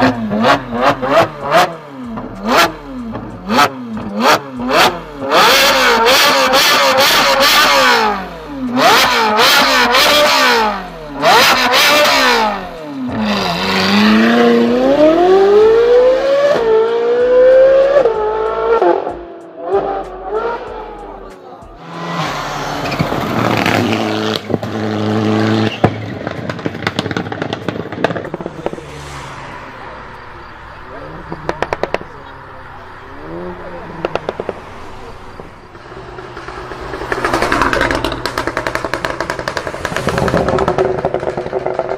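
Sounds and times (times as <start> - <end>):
exhaust crackling: 0.0 - 18.8, 20.0 - 41.9
car engine revving: 0.0 - 41.9.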